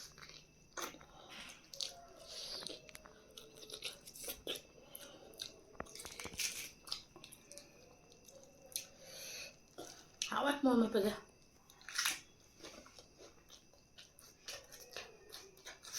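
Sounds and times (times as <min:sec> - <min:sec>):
person chewing crunchy food: 0:00.0 - 0:10.3, 0:11.4 - 0:15.9.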